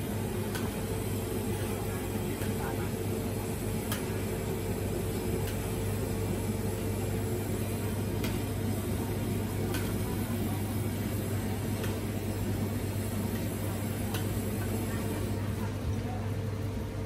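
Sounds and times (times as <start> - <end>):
gas burner roaring: 0.0 - 17.0.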